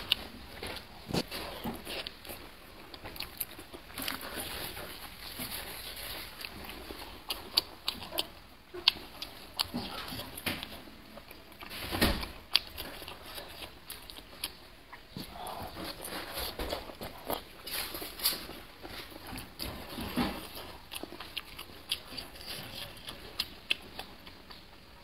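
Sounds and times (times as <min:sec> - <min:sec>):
wet chewing and mouth smacks: 0:00.0 - 0:25.0.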